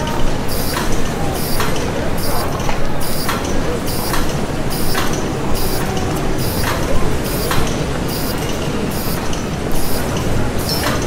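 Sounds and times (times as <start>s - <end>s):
rhythmic hissing stroke: 0.0s - 11.0s.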